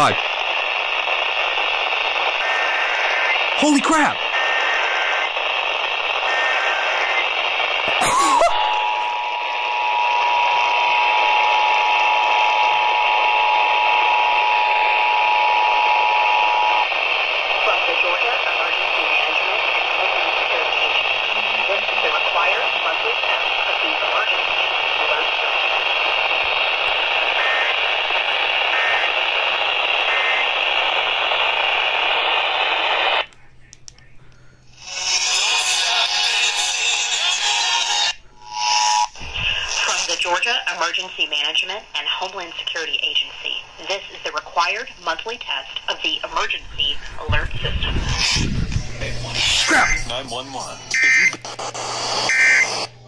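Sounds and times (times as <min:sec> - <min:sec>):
radio crackle: 0:00.0 - 0:53.0
radio hiss: 0:00.0 - 0:53.0.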